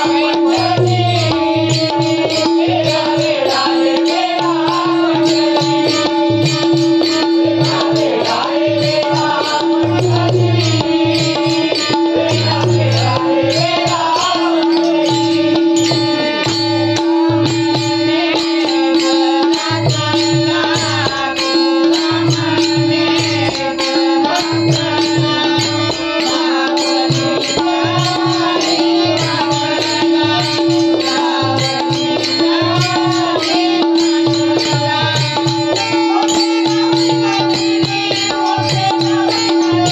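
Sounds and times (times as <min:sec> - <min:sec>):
hand-drum beats: 0:00.0 - 0:39.9
person singing devotional melody: 0:00.0 - 0:39.9.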